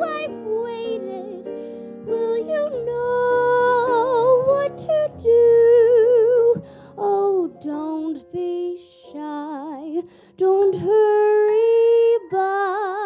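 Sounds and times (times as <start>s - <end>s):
piano accompaniment: 0.0s - 13.0s
woman singing ballad: 0.0s - 13.0s.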